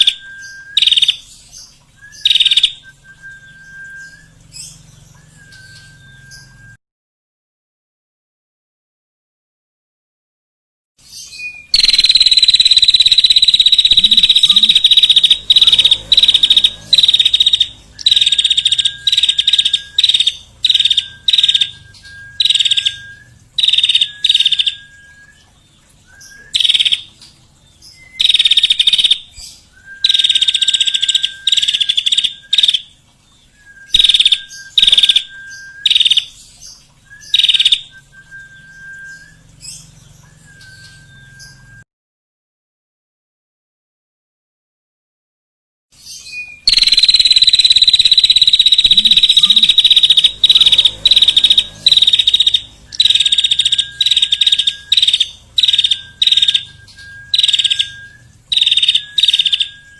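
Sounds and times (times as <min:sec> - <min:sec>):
songbird trilling and whistling: 0:00.0 - 0:06.8, 0:11.1 - 0:41.8, 0:46.0 - 0:59.9.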